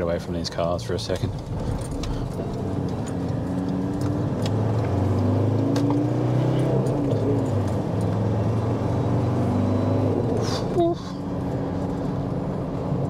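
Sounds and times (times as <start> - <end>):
road noise: 0.0 - 13.0
truck engine accelerating: 1.0 - 13.0.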